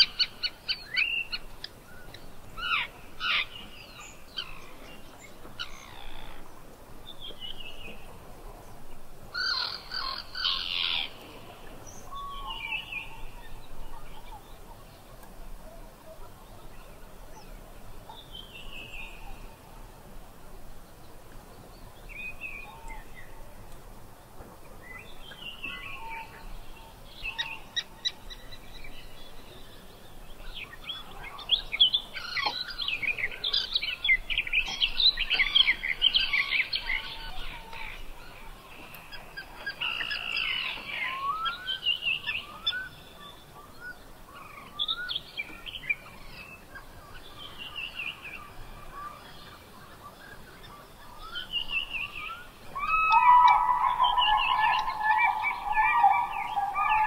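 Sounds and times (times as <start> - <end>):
birds chirping and trilling: 0.0 - 19.7, 20.8 - 57.0.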